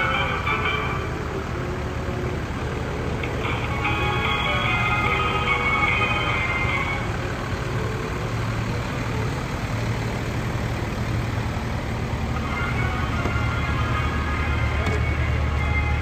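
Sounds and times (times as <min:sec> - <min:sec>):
music: 0:00.0 - 0:09.4, 0:12.3 - 0:16.0
large vehicle engine idling: 0:00.0 - 0:16.0
street noise: 0:00.0 - 0:16.0.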